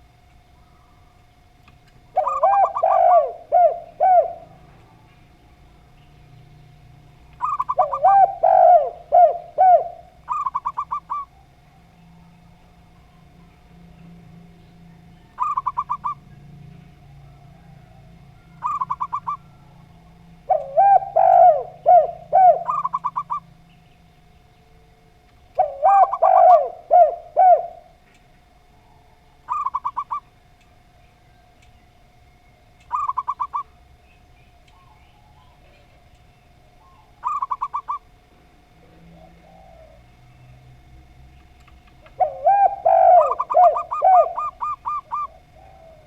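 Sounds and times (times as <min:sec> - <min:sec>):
doves cooing: 0:00.0 - 0:46.0
faint steady hum: 0:00.0 - 0:46.0.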